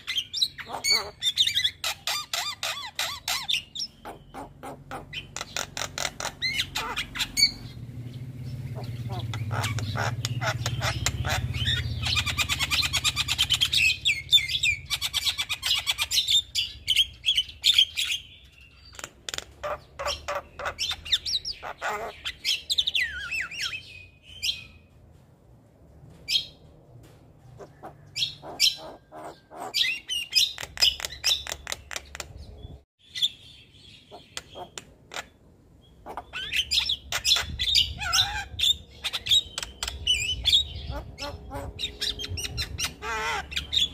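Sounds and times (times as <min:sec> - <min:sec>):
bird singing chattering notes: 0:00.0 - 0:24.8, 0:27.6 - 0:43.9.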